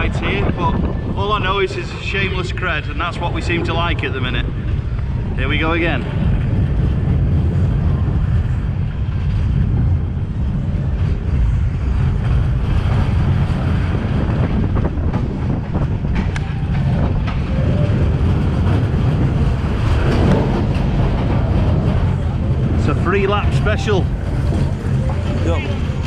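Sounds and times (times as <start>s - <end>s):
roller coaster rumbling on track: 0.0s - 26.0s
roller coaster track clacks: 0.0s - 26.0s.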